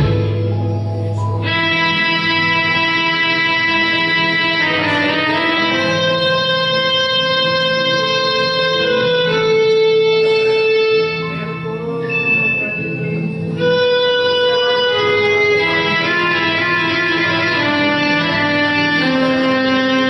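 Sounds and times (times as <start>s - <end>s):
karaoke backing track: 0.0s - 20.0s.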